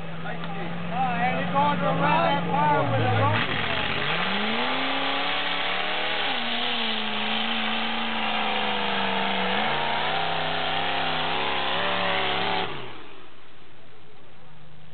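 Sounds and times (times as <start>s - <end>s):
truck engine revving hard: 0.8s - 13.3s.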